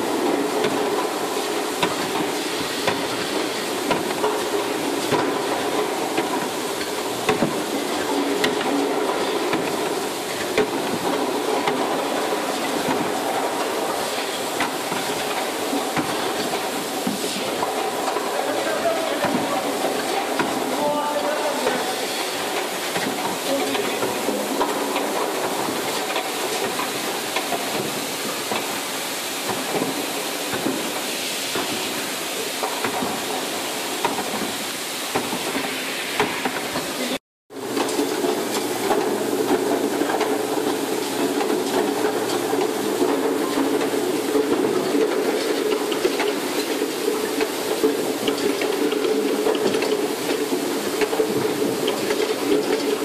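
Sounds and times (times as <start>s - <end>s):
bottles clicking along conveyor: 0.0s - 53.0s
steady mechanical hiss: 0.0s - 53.0s.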